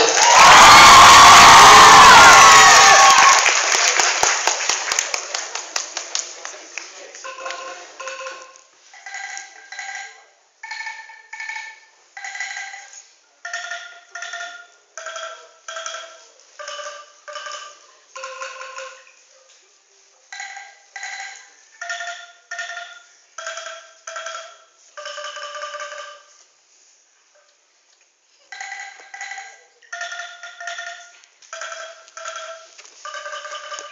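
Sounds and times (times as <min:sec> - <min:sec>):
bamboo angklung rattling melody: 0:00.0 - 0:03.3, 0:07.2 - 0:19.4, 0:20.0 - 0:26.8, 0:28.4 - 0:33.9.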